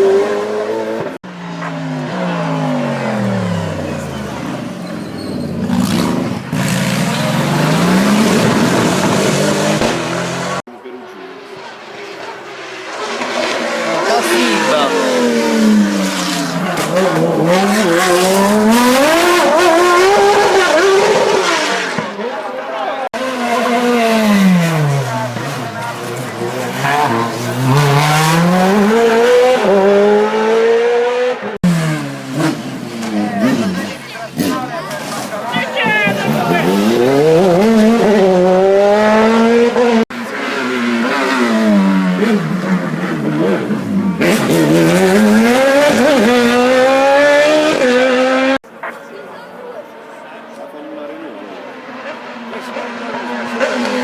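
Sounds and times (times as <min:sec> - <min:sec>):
race car engine at high revs: 0:00.0 - 0:04.8, 0:05.5 - 0:49.0, 0:49.9 - 0:54.0.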